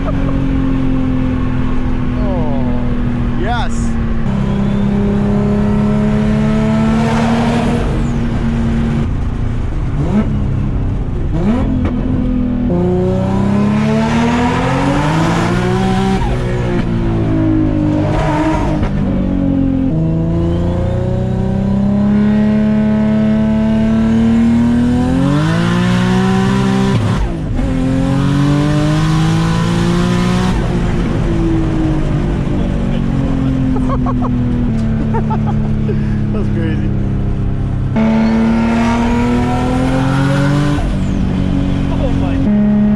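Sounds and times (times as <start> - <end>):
car engine accelerating through gears: 0.0 - 42.9.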